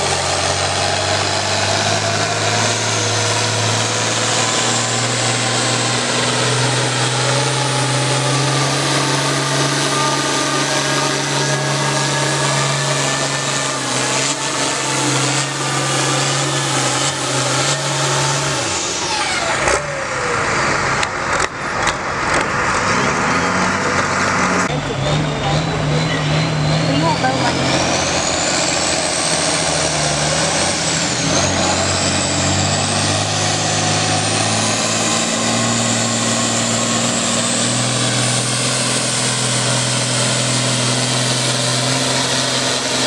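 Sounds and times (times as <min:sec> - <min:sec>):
tractor engine at full throttle: 0:00.0 - 0:43.0.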